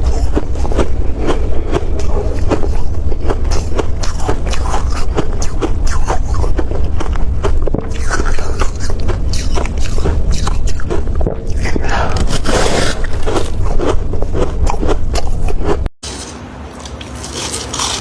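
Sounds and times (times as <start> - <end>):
low rumble: 0.0 - 15.9
crunching and chewing frost: 0.0 - 16.2, 16.8 - 18.0.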